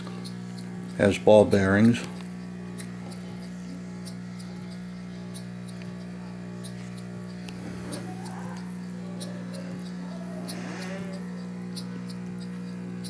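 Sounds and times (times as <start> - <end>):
aquarium air pump humming: 0.0 - 13.0.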